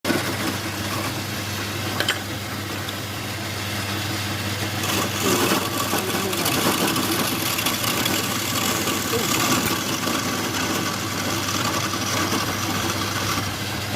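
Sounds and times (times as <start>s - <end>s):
wood lathe motor humming: 0.1s - 13.9s.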